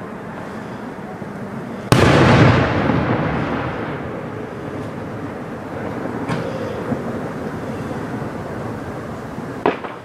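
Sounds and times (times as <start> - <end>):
firework burst echo rumbling: 1.9 - 10.0.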